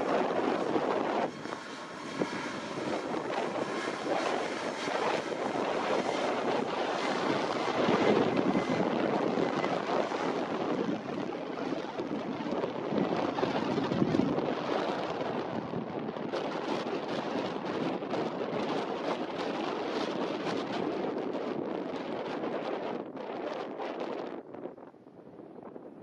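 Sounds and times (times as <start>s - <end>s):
jet engines at take-off power: 0.0s - 26.0s
wind on microphone: 0.0s - 26.0s.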